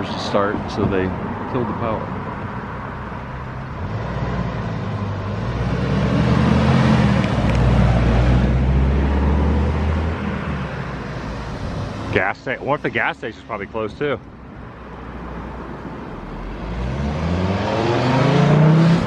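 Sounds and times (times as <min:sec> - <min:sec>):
road and wind rush: 0:00.0 - 0:19.0
vehicle engine: 0:00.0 - 0:19.0.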